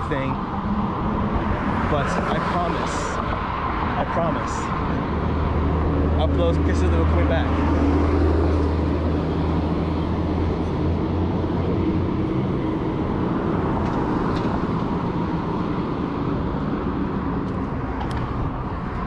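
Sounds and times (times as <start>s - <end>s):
steady traffic noise: 0.0s - 19.0s
vehicle engine hum: 0.0s - 19.0s.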